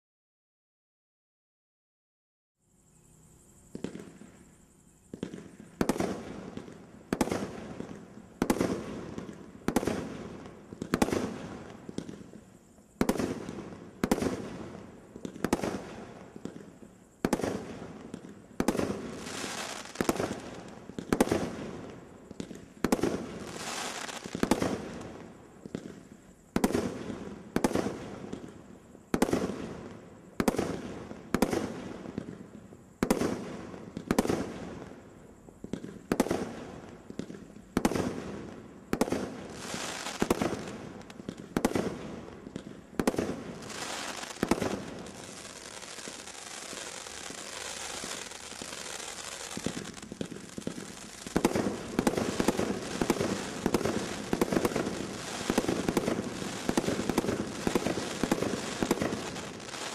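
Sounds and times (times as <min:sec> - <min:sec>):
firework hiss: 0:03.6 - 0:59.9.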